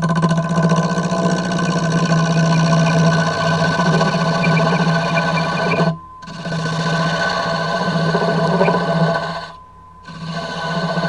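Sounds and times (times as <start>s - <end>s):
wood lathe humming: 0.0s - 11.0s.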